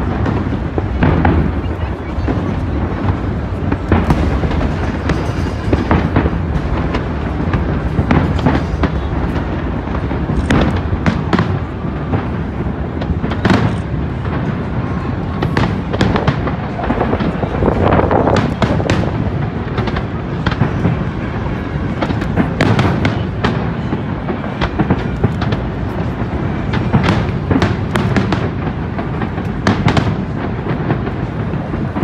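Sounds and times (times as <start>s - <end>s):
continuous rumble: 0.0s - 32.0s
fireworks bangs and cracks: 0.0s - 32.0s.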